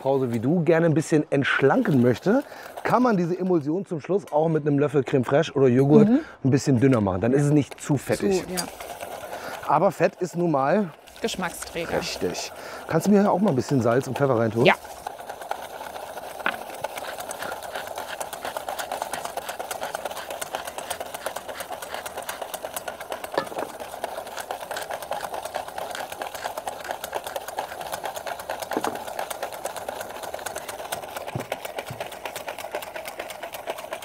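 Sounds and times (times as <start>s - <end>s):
whisk scraping metal bowl: 1.4s - 3.6s, 7.5s - 34.0s.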